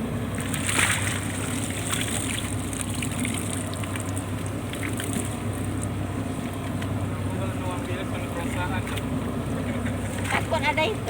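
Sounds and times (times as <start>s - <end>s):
boat engine hum: 0.0s - 11.0s
water splashing and trickling: 0.2s - 11.0s.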